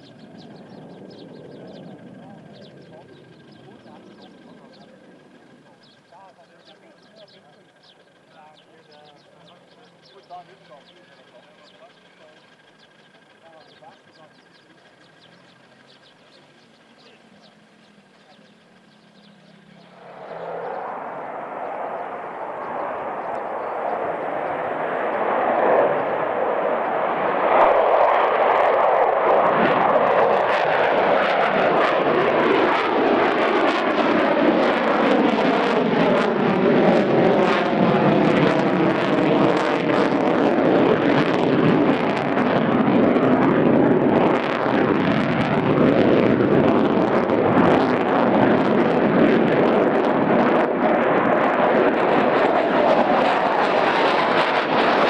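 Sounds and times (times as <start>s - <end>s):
fighter jet engine roar: 0.0s - 55.0s.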